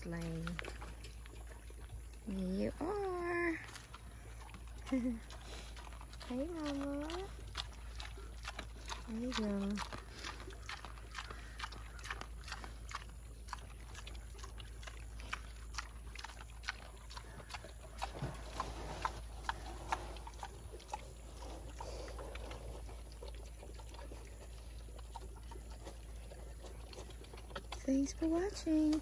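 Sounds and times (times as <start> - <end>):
piglets rooting clicks and crunches: 0.0 - 29.0
soft pig grunts: 2.8 - 27.9.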